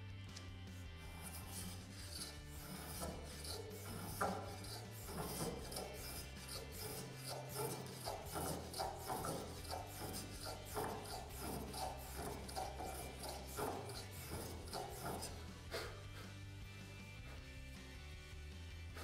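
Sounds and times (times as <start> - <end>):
hand plane scraping wood: 0.7 - 16.4.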